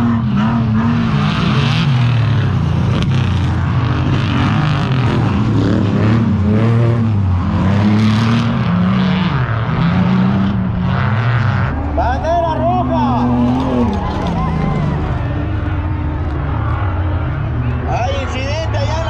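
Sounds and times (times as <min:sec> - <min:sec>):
race truck engine revving: 0:00.0 - 0:19.0.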